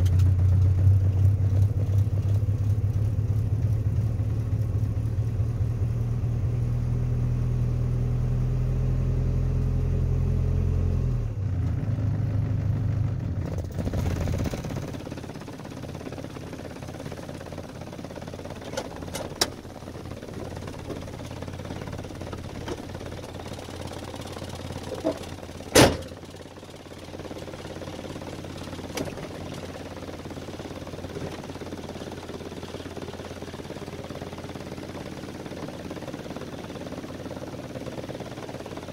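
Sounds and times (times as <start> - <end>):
vehicle engine idling: 0.0 - 8.1, 11.4 - 38.9.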